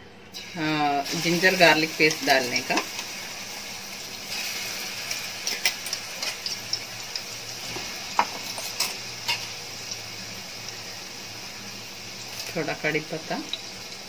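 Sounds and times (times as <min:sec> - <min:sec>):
paste sizzling in hot oil: 0:00.4 - 0:14.0.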